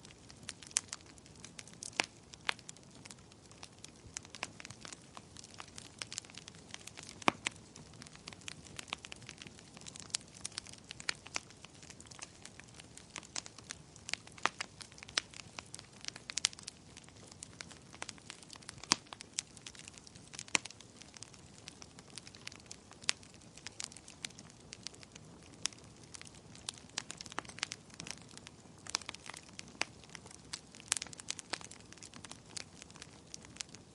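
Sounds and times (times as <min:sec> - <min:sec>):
faint fire hiss: 0:00.0 - 0:33.9
wood fire crackling and popping: 0:00.0 - 0:33.9.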